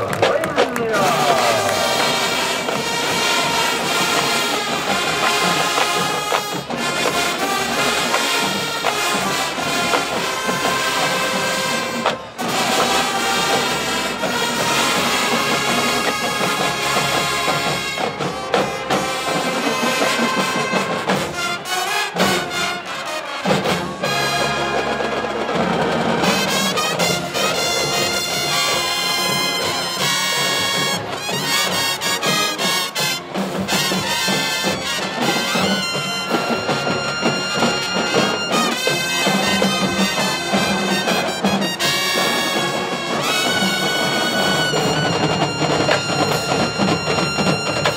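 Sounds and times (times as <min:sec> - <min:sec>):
marching band playing: 0:00.0 - 0:47.9
brass sustained notes: 0:00.2 - 0:47.9.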